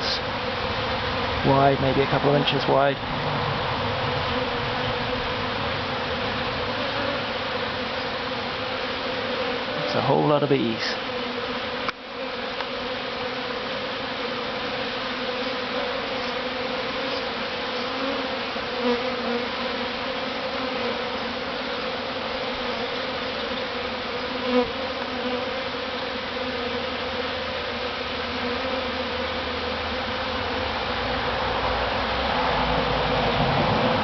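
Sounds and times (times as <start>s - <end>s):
bee swarm buzzing: 0.0s - 34.0s
single bee passing close: 0.0s - 34.0s.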